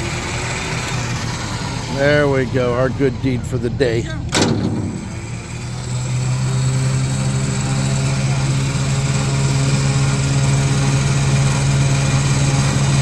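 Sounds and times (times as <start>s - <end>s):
vehicle engine humming: 0.5s - 12.8s.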